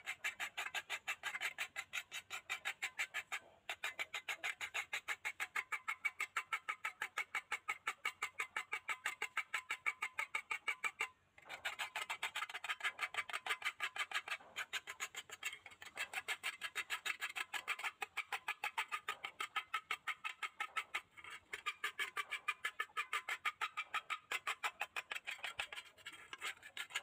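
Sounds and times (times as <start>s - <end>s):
brush scrubbing rusty metal: 0.0s - 27.0s.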